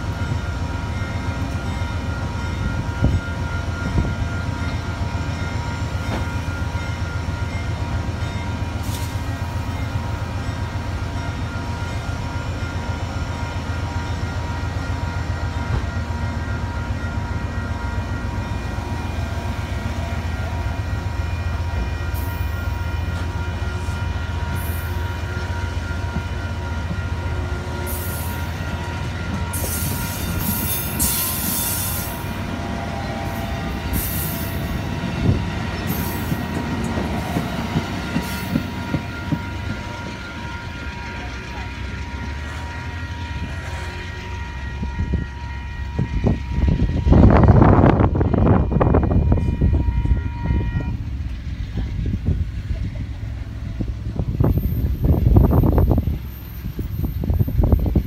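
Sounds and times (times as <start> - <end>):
train cars rumbling past: 0.0 - 58.0.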